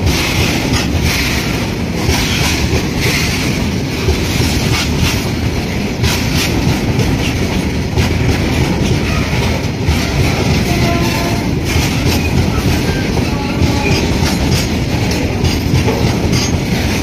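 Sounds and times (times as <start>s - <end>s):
train rumbling on track: 0.0s - 17.0s
wheels clattering over rail joints: 0.0s - 17.0s.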